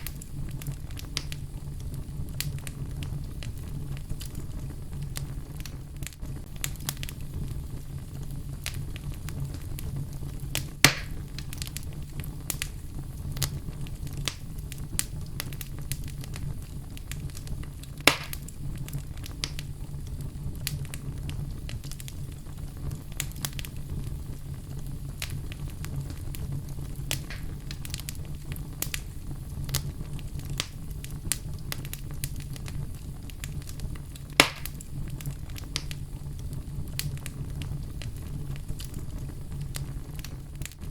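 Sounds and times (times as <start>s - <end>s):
fire popping: 0.0s - 40.9s
low rumble of flame: 0.0s - 40.9s
wood fire crackling: 0.0s - 40.9s.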